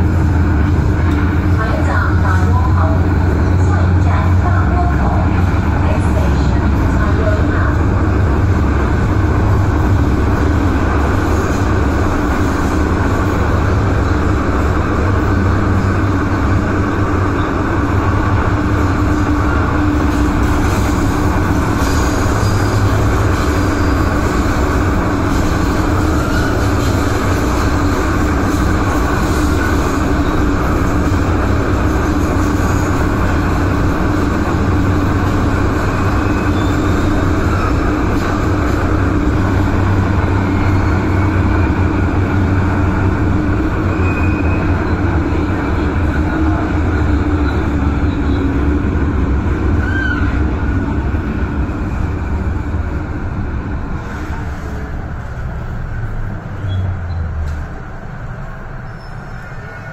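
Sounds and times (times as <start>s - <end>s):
train rumbling through a tunnel: 0.0s - 59.9s.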